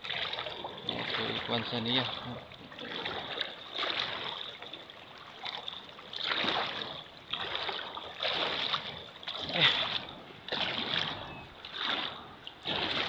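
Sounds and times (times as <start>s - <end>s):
feet splashing in river: 0.0s - 13.0s
river water flowing: 0.0s - 13.0s.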